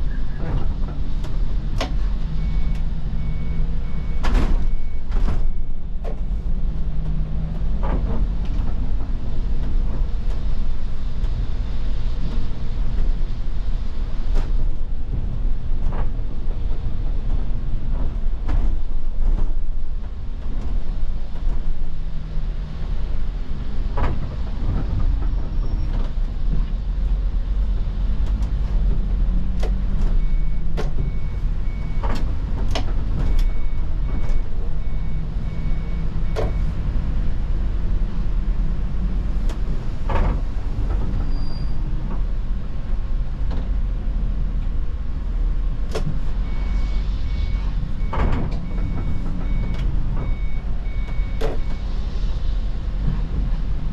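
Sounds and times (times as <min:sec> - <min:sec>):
bus engine and road rumble: 0:00.0 - 0:53.9
tyres on wet road: 0:00.0 - 0:53.9.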